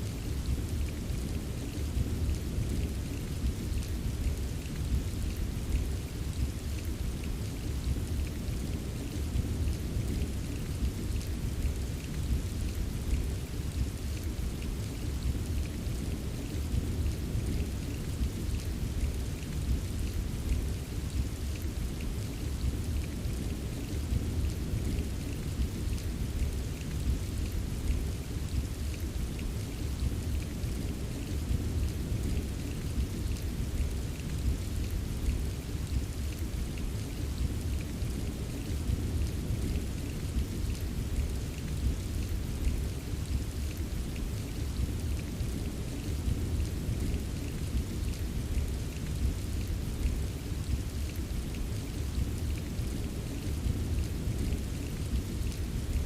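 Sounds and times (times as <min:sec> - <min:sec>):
rain drops tapping: 0:00.0 - 0:56.0.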